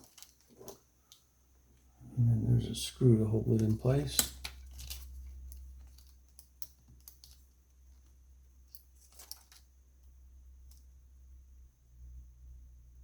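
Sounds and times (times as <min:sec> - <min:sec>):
steady low hum: 0:00.9 - 0:13.0.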